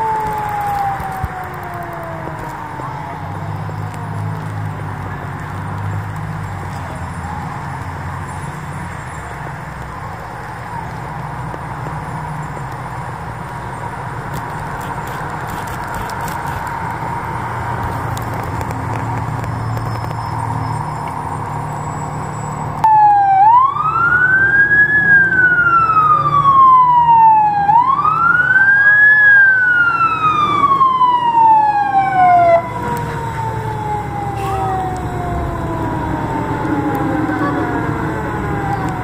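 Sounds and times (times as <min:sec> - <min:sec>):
fire truck siren wailing: 0:00.0 - 0:39.0
truck engines rumbling: 0:00.0 - 0:39.0.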